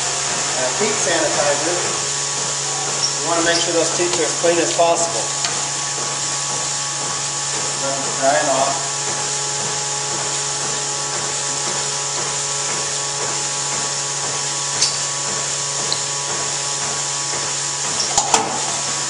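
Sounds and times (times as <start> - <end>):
vacuum system humming and hissing: 0.0 - 19.0.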